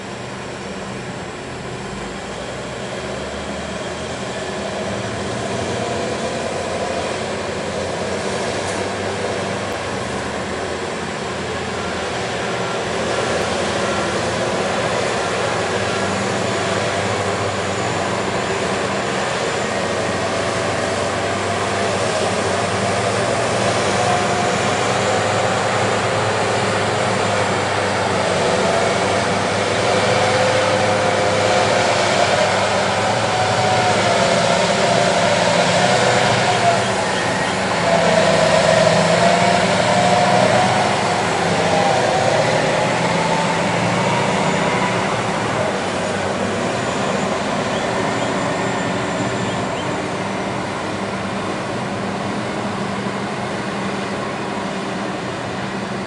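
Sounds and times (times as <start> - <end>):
heavy machinery engines running: 0.0 - 56.0
wavering whine: 9.3 - 56.0.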